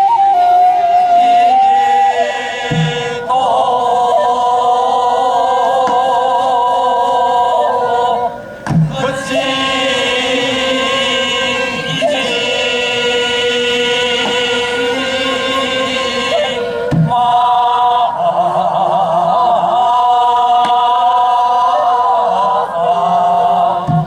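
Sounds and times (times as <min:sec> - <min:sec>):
voices singing long held notes: 0:00.0 - 0:24.0.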